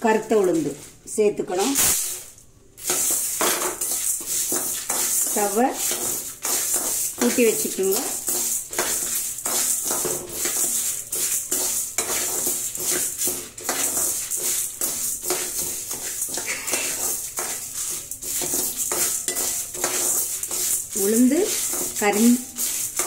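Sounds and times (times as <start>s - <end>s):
spoon scraping metal pan: 2.8s - 23.0s.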